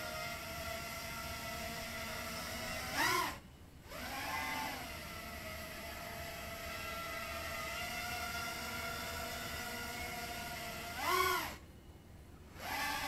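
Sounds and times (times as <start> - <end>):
quadcopter motors whining: 0.0 - 11.6, 12.5 - 13.0.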